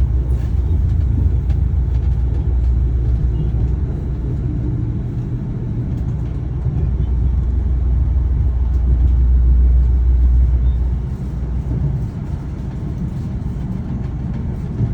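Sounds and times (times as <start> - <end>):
moving train rumble: 0.0 - 14.9.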